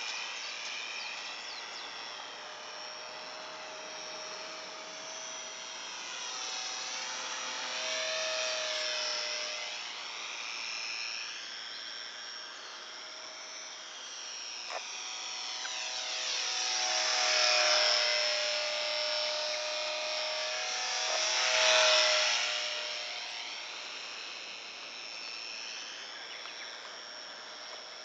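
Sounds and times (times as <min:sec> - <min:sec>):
model airplane motor whining: 0:00.0 - 0:28.0.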